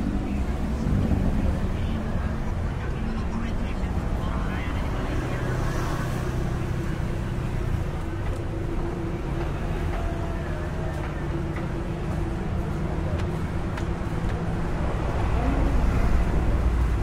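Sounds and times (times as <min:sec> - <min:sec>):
faint voices: 0:00.0 - 0:17.0
traffic engine rumble: 0:00.0 - 0:17.0
vehicle approaching: 0:00.0 - 0:17.0.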